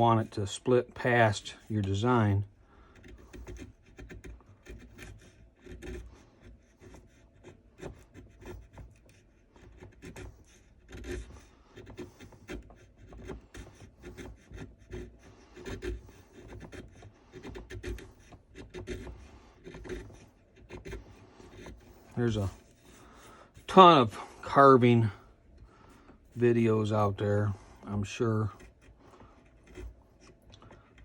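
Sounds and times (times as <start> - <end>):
chisel scraping wood: 0.0 - 31.0.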